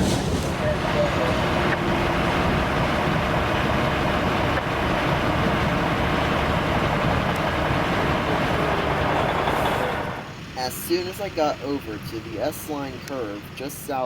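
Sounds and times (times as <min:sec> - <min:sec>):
vehicle rumbling: 0:00.0 - 0:14.0.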